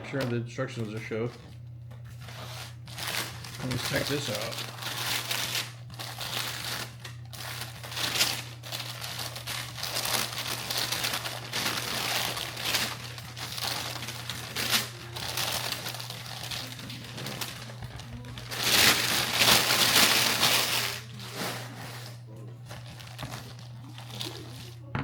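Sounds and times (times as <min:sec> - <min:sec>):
packaging crinkling and rustling: 0:00.0 - 0:24.9
steady low hum: 0:00.0 - 0:25.0.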